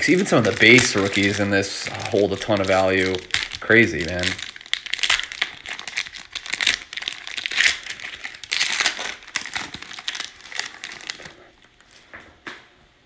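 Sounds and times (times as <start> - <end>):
foil wrapper torn and crinkled: 0.0 - 12.1.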